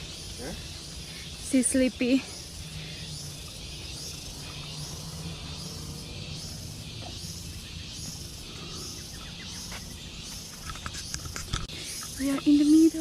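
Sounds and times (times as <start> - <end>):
insects chorus hissing: 0.0 - 13.0.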